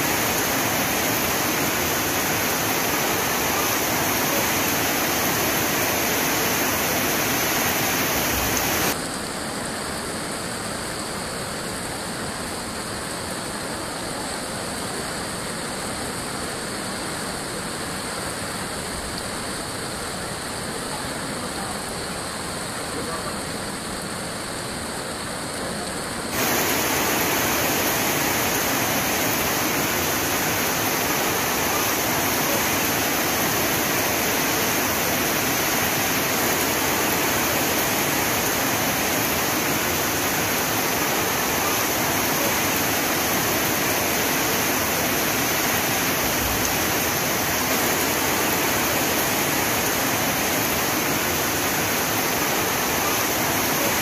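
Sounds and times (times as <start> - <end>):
heavy rain falling: 0.0 - 16.0, 17.2 - 54.0.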